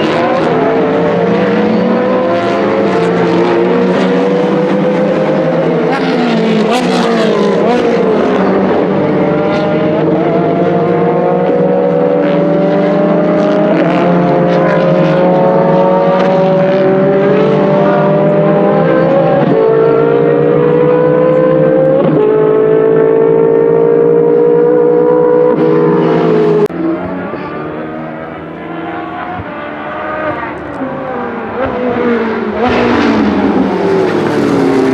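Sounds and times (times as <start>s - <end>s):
race car engines accelerating: 0.0s - 34.9s.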